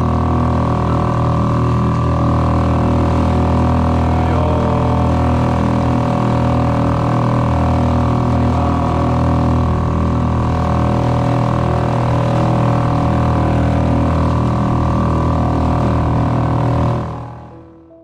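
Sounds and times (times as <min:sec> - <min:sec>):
outboard motor running: 0:00.0 - 0:17.9.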